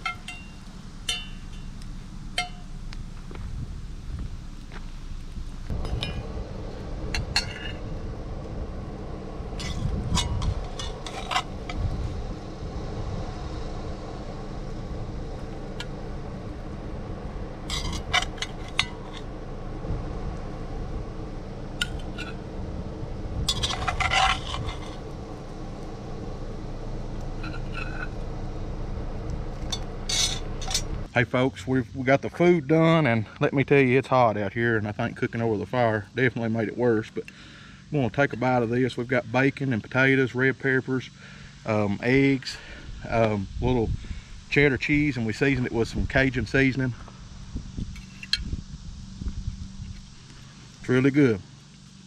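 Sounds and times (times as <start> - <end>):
low rumble: 0.0 - 36.1, 40.3 - 51.1.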